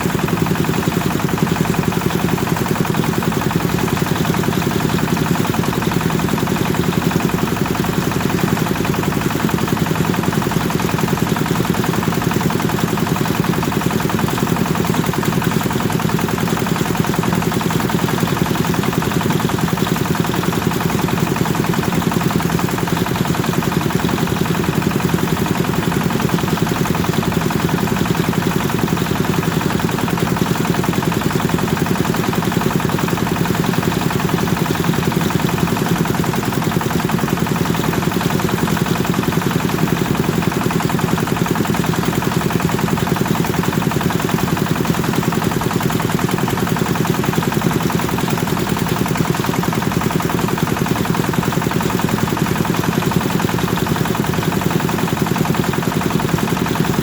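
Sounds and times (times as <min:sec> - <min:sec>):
engine chugging: 0:00.0 - 0:57.0.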